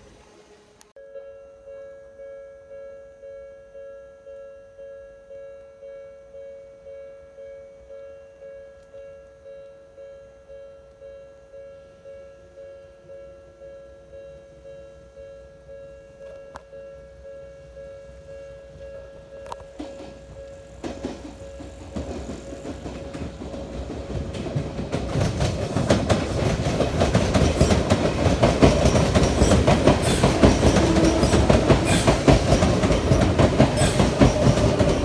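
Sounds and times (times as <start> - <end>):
level-crossing warning bell: 1.0 - 35.0.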